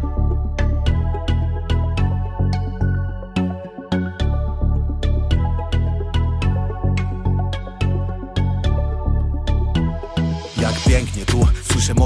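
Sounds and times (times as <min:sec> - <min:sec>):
hip-hop instrumental beat: 0:00.0 - 0:12.0.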